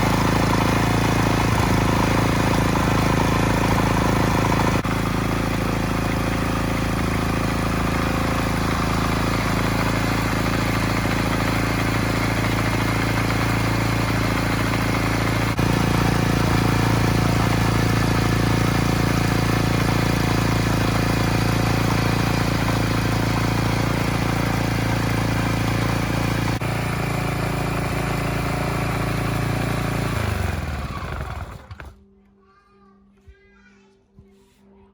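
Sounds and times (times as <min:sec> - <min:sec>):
engine coasting to a stop: 0:00.0 - 0:32.0
small petrol engine running: 0:00.0 - 0:32.0.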